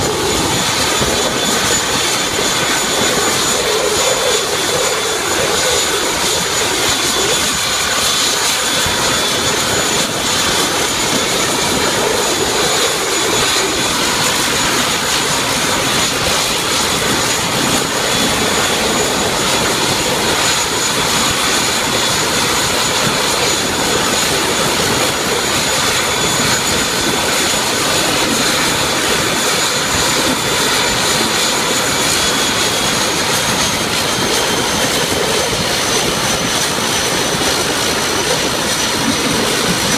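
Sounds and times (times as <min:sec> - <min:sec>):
turboprop engines running: 0:00.0 - 0:39.9.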